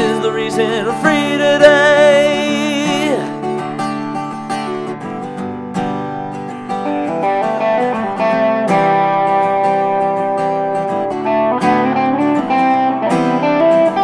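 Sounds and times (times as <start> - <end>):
country guitar instrumental: 0.0 - 14.0.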